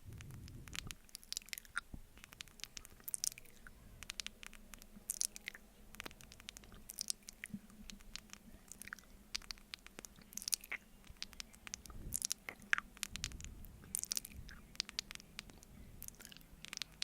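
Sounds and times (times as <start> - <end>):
sticky lip smacks: 0.1 - 17.0
tongue clicks: 0.1 - 17.0.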